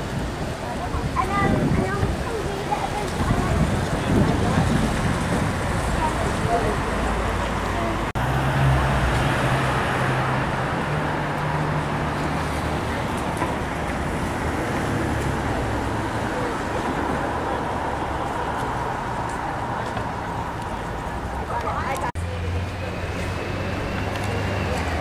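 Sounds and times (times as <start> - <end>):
faint voices: 0.0 - 8.2, 11.8 - 25.0
road traffic noise: 0.0 - 25.0.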